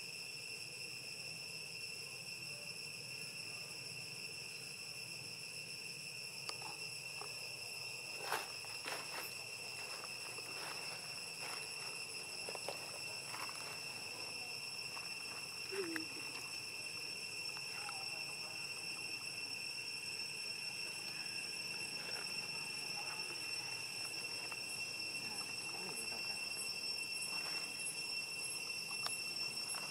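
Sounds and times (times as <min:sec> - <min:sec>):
insect chorus drone: 0:00.0 - 0:29.9.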